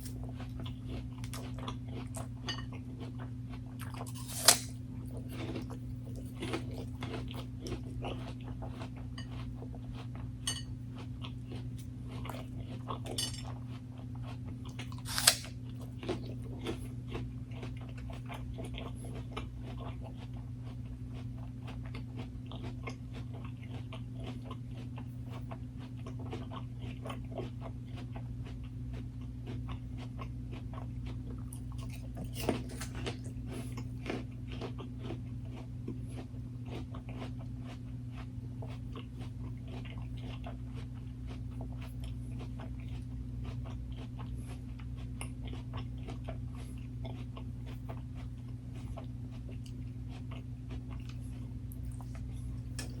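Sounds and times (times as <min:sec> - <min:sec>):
crunchy biting and chewing: 0:00.0 - 0:53.0
steady low hum: 0:00.0 - 0:53.0.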